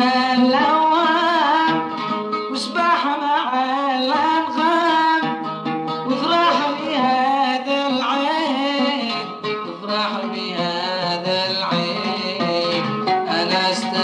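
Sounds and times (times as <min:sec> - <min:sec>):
person singing ornamented lines: 0:00.0 - 0:14.0
plucked string accompaniment: 0:00.0 - 0:14.0.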